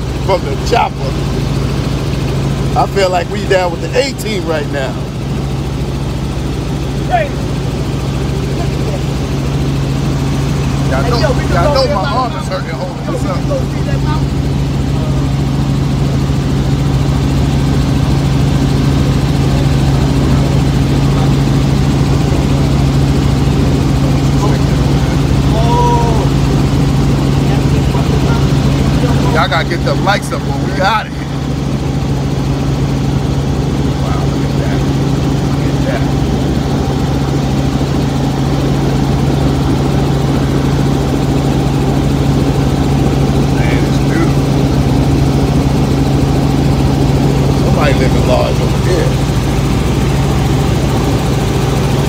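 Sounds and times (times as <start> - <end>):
helicopter rotor and turbine hum: 0.0 - 52.0.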